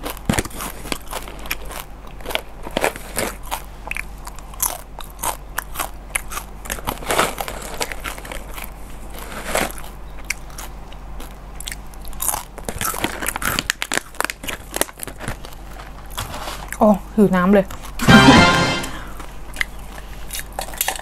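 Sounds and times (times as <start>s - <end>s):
crunchy snack being chewed: 0.0s - 16.8s, 19.5s - 21.0s.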